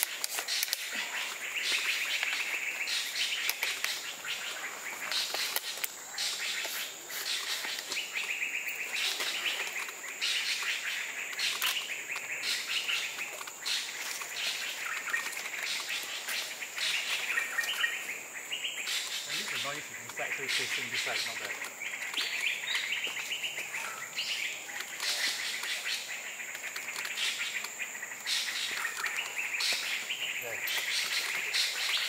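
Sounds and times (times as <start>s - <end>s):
birds scratchy chirping: 0.0s - 32.0s.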